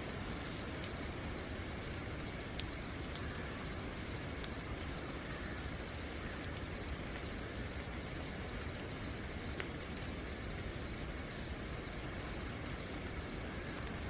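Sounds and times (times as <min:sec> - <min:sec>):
crickets chirping: 0:00.0 - 0:14.0
steady rain: 0:00.0 - 0:14.0.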